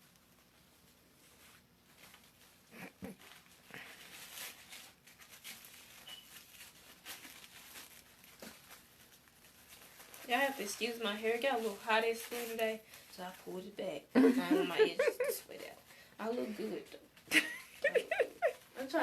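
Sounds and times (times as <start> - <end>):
faint rustling and crinkling: 0.0 - 19.0.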